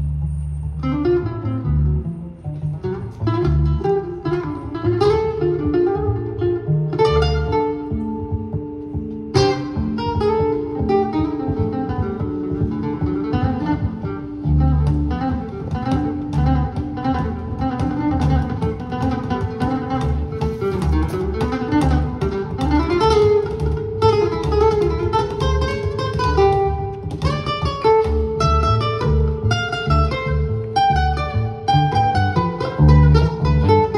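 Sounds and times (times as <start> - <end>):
acoustic guitar plucking: 0.0 - 33.9
plucked double bass: 0.0 - 33.9.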